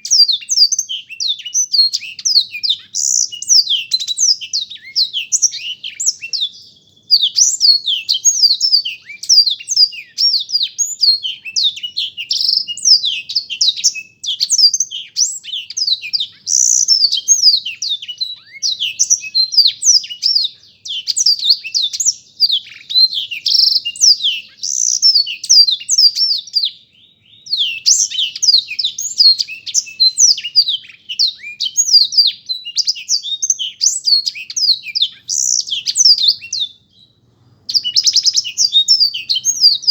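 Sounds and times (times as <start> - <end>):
canary singing fast song: 0.0 - 39.9.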